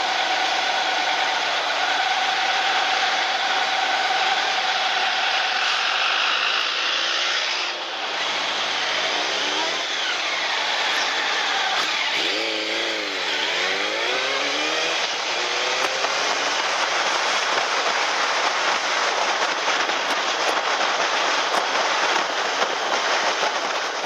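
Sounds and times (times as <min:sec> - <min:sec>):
car engine revving: 0:00.0 - 0:20.7
road and tyre noise: 0:00.0 - 0:24.0.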